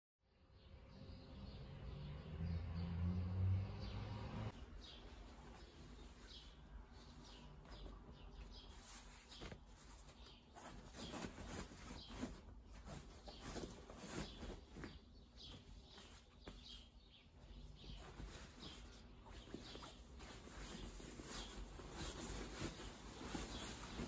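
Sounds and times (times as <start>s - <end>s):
fabric rustling: 4.6s - 24.0s.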